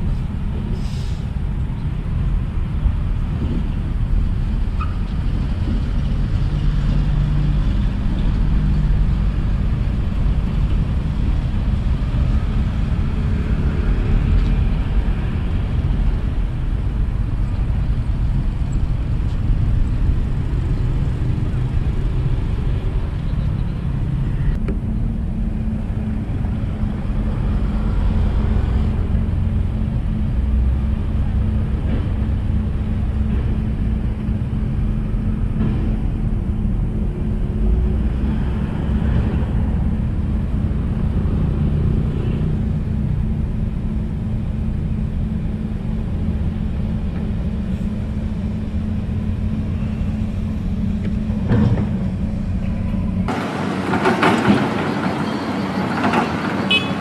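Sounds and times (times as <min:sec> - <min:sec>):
heavy low rumble: 0:00.0 - 0:53.4
machinery engine hum: 0:00.0 - 0:57.0.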